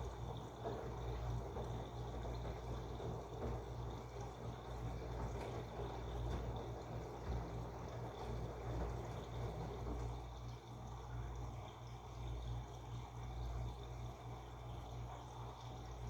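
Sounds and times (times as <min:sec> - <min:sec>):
washing machine hum: 0:00.0 - 0:16.0
water sloshing in washing machine: 0:00.0 - 0:16.0.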